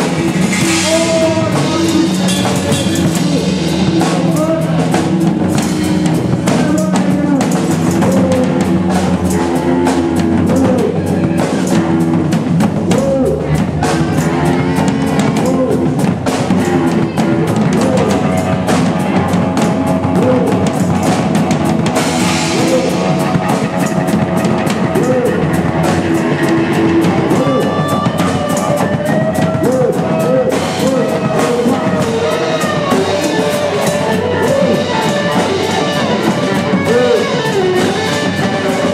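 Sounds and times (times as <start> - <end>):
drums and cymbals pounding: 0.0 - 38.9
electric guitar sliding notes: 0.0 - 38.9.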